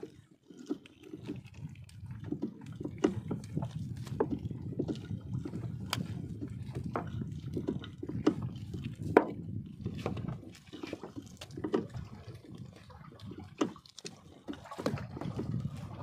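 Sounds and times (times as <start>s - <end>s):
water dripping and splashing: 0.1s - 16.0s
wet net knocking in a boat: 2.1s - 12.6s, 13.4s - 16.0s.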